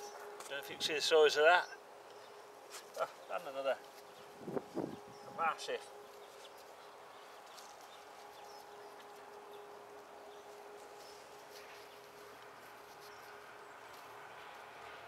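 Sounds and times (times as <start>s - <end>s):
faint machine hum: 0.0s - 15.0s.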